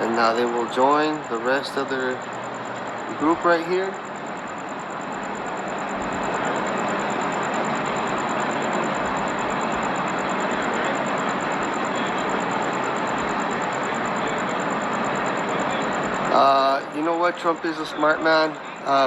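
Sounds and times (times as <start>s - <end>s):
steady vehicle noise: 0.0s - 19.0s.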